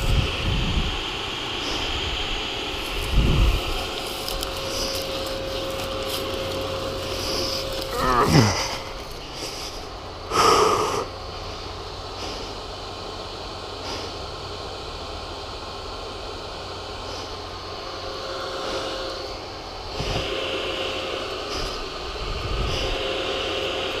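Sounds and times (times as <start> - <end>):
motorcycle engine idling: 0.0 - 20.4.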